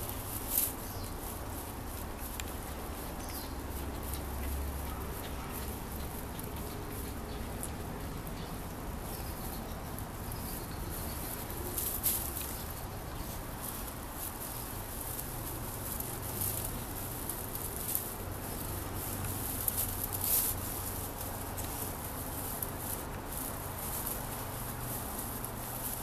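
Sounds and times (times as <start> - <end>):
tinsel rustling and crinkling: 0.0 - 8.3, 9.0 - 26.0.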